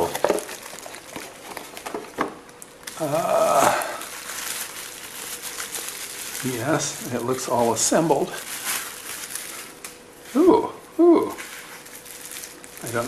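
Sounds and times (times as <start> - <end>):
bubble wrap crinkling: 0.0 - 10.4, 11.3 - 13.0.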